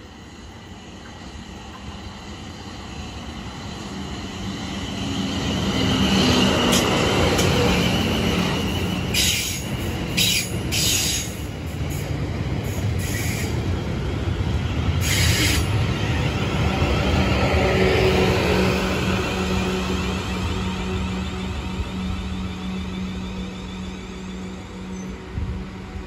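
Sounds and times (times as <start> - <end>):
train wheel and bogie rumble: 0.0 - 26.0.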